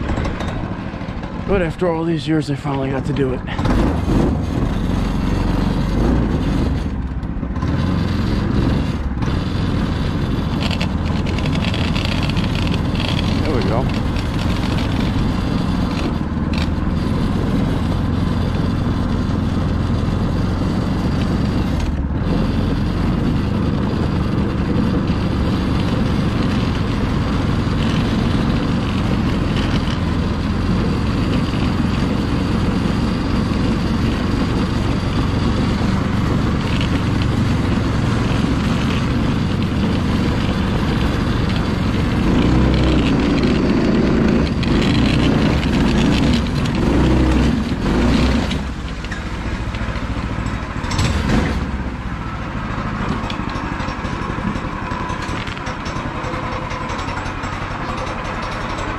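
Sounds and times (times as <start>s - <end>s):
go-kart engine running: 0.0s - 58.9s.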